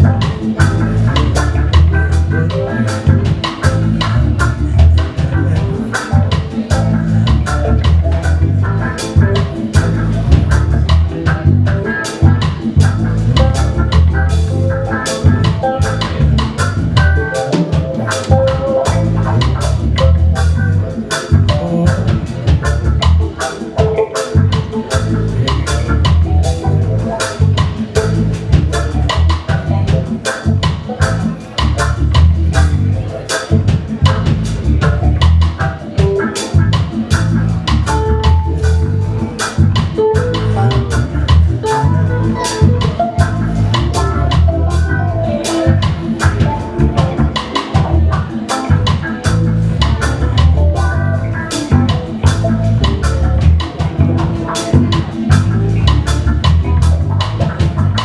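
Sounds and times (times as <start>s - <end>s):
drum kit beat: 0.0s - 58.0s
electric guitars: 0.0s - 58.0s
heavy bass line: 0.0s - 58.0s
keyboard: 0.0s - 58.0s.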